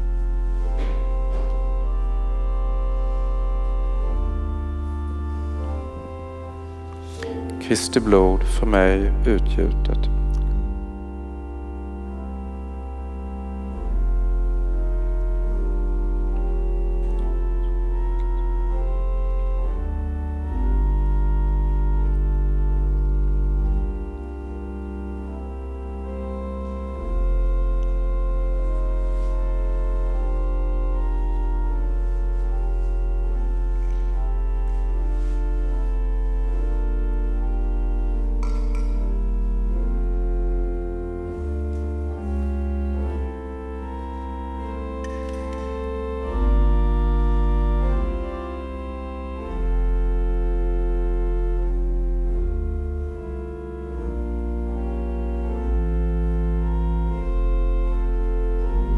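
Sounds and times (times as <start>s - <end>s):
church organ chords: 0.0s - 58.9s
deep organ pedal bass notes: 0.0s - 58.9s.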